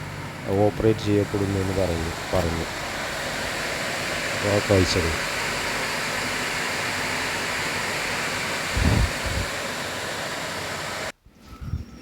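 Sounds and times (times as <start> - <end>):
water rushing: 0.0 - 11.1.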